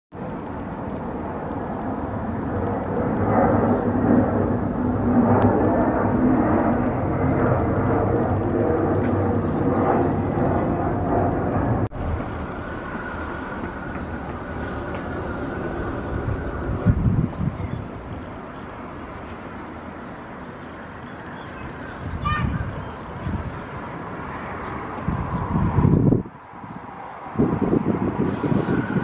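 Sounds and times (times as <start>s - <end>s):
jet engine roar: 0.2s - 29.0s.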